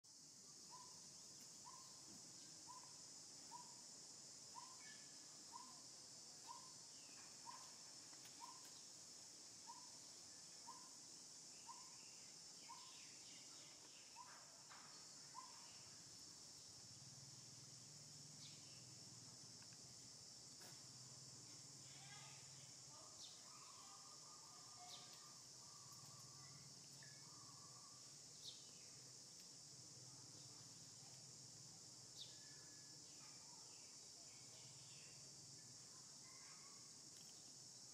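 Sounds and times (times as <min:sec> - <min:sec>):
high insect drone: 0:00.1 - 0:37.9.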